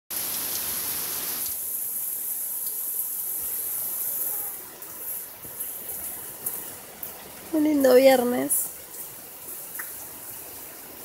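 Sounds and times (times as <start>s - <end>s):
steady rain falling: 0.1s - 11.0s.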